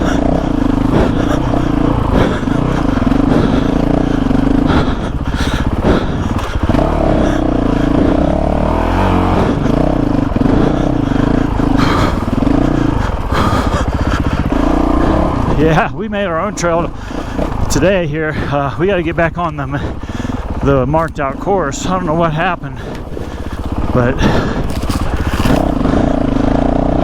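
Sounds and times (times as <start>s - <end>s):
motorcycle engine at low revs: 0.0s - 27.0s.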